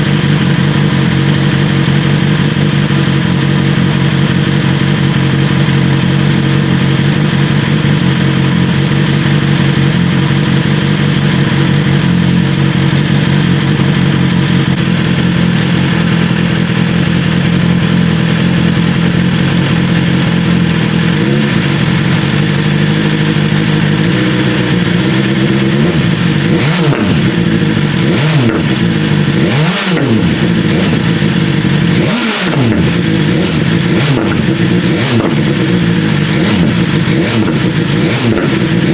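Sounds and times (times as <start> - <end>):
exhaust pops: 0.0 - 38.9
motorcycle engine idling and revving: 0.0 - 38.9.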